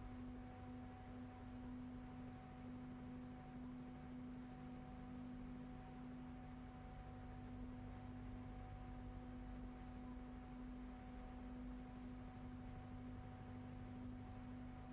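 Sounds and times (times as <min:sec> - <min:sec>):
faint electrical hum: 0:00.0 - 0:14.9.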